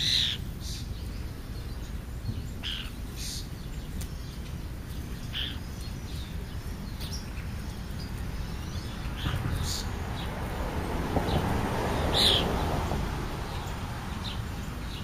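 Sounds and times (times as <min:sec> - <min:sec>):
low outdoor background noise: 0:00.0 - 0:15.0
wild birds calling: 0:00.0 - 0:15.0.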